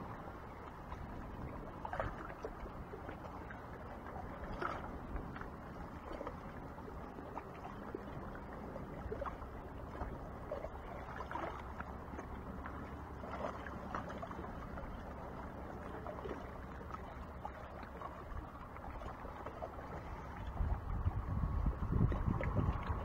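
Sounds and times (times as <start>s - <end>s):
water lapping against rocks: 0.0s - 23.0s
small splashes: 0.6s - 23.0s.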